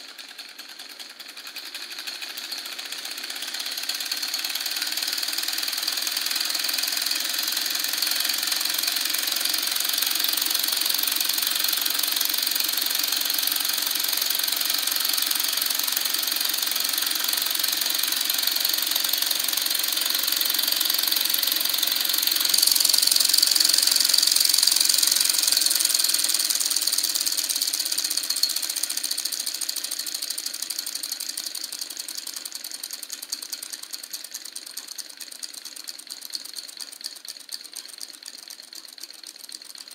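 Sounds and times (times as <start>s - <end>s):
solenoid engine clattering: 0.0s - 39.9s.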